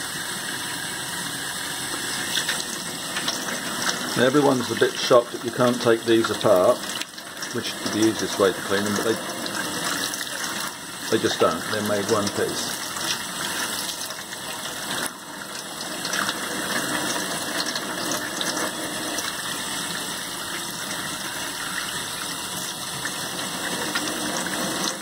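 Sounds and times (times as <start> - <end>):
water splashing into steel sink: 1.9 - 25.0.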